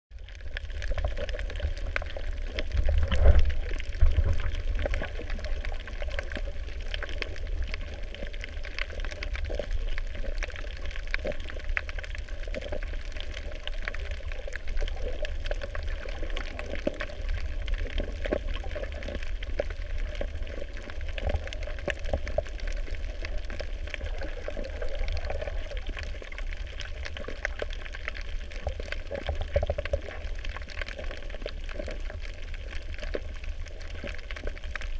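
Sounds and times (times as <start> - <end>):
muffled underwater rush: 0.1 - 34.9
faint crackling clicks: 0.2 - 34.9.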